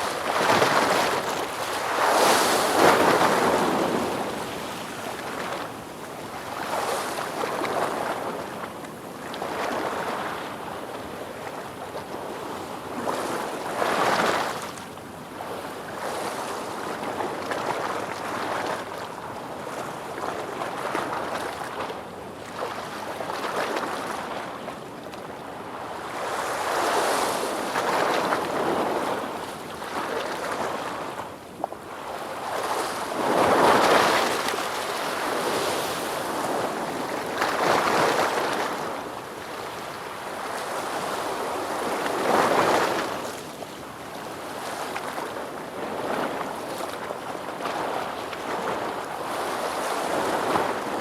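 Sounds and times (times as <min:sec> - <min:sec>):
ocean waves washing on shore: 0:00.0 - 0:24.6, 0:25.4 - 0:51.0.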